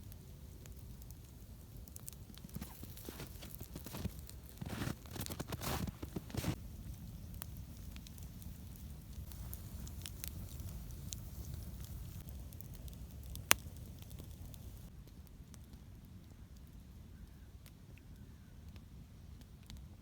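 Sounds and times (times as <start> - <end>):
campfire crackling and popping: 0.0 - 16.8.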